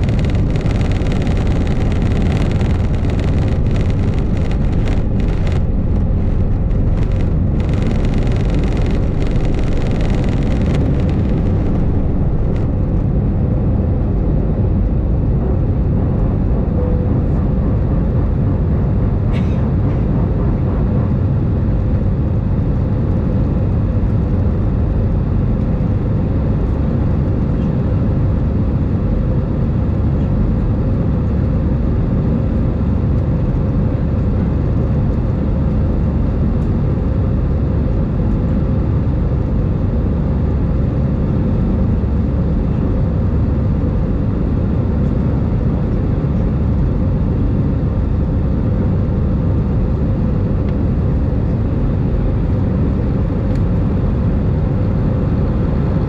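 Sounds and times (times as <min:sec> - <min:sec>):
airplane cabin engine roar: 0:00.0 - 0:56.0.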